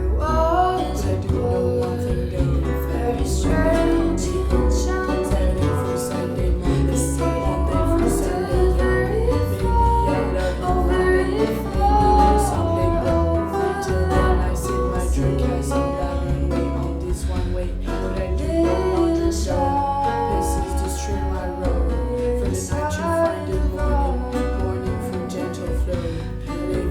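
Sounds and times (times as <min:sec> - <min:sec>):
plucked archlute: 0:00.0 - 0:26.9
woman singing: 0:00.0 - 0:26.9.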